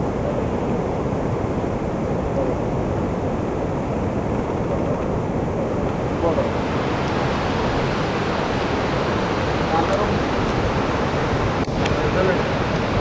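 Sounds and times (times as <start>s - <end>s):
waterfall roar: 0.0s - 13.0s.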